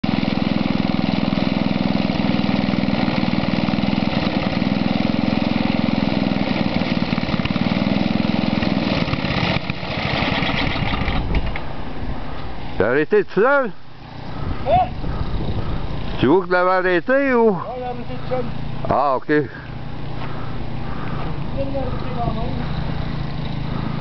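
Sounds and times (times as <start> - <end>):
snow blower engine running: 0.0 - 12.5, 13.5 - 24.0.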